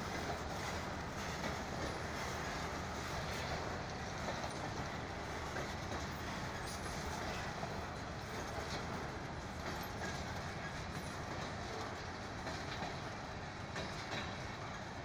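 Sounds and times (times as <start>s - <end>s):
steel wheels on rails: 0.0s - 15.0s.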